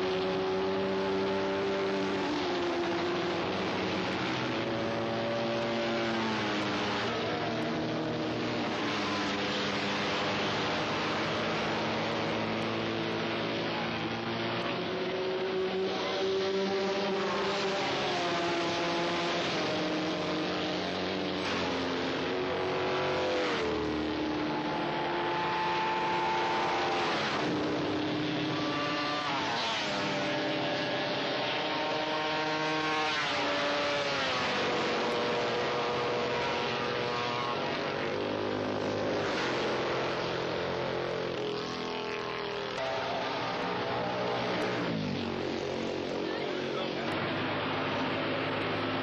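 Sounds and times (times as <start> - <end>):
racing motorcycle engines revving: 0.0 - 49.0.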